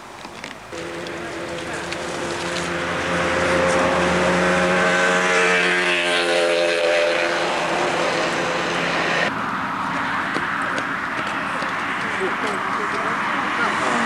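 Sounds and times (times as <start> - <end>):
vehicle passing by: 0.7 - 14.0.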